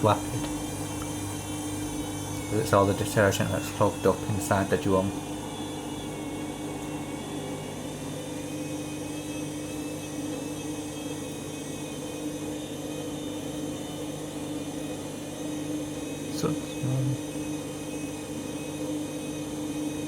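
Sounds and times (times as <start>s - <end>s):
washing machine motor hum and whine: 0.0s - 20.0s.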